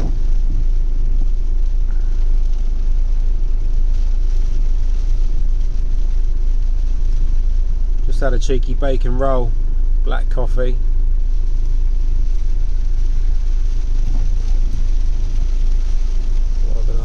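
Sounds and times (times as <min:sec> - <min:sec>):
heavy rain: 0:00.0 - 0:17.0
wind: 0:00.0 - 0:17.0.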